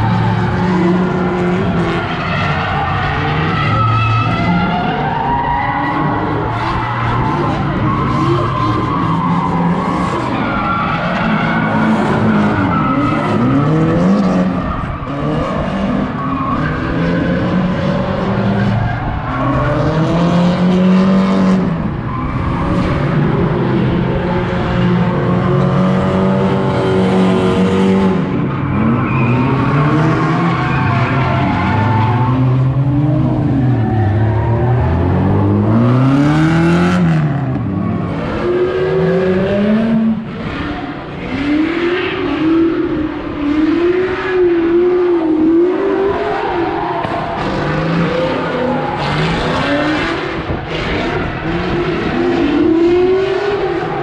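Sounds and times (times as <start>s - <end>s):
car engine revving: 0.0s - 5.1s, 5.8s - 54.0s
tyres skidding and squealing: 0.0s - 54.0s.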